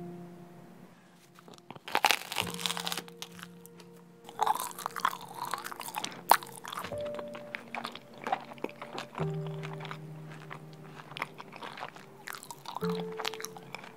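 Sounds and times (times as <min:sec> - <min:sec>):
soft background music: 0:00.0 - 0:13.9
chewing crunchy bread: 0:01.3 - 0:13.9.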